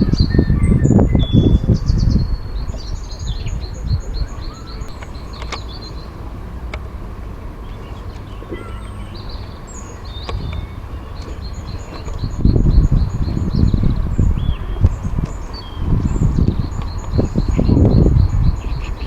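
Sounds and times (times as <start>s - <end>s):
bird chirps: 0.0s - 6.8s, 7.6s - 19.0s
steady low rumble: 0.0s - 19.0s.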